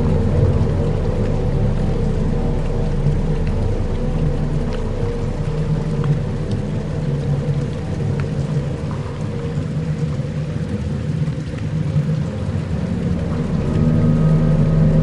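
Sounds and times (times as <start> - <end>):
faint ticks: 0.0 - 14.0
dark ambient drone music: 0.0 - 15.0
rain-like hiss: 0.0 - 15.0.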